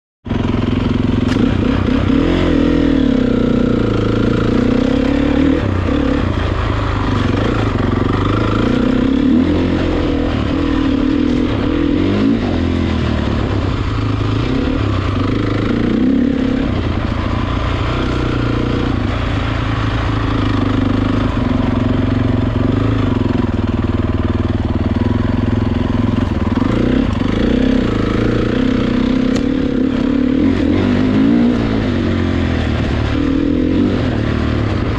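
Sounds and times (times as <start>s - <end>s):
dirt bike engine revving: 0.3s - 34.9s.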